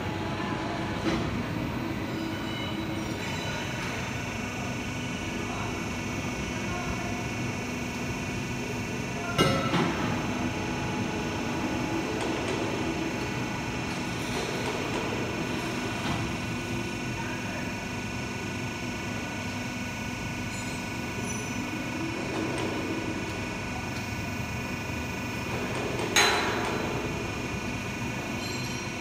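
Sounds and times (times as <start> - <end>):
hydraulic machine hum: 0.0 - 29.0.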